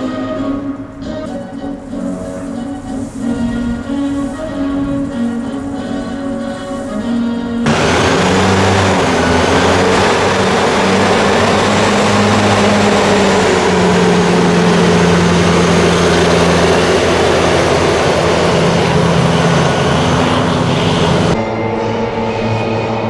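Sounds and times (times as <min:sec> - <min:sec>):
engine drone: 0:00.0 - 0:23.0
hovercraft propeller air rush: 0:00.0 - 0:23.0.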